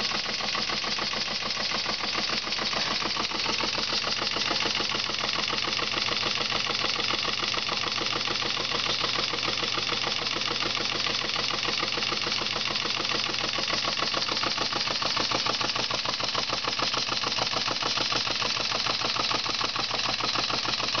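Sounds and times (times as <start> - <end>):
model steam engine chuffing: 0.0 - 21.0.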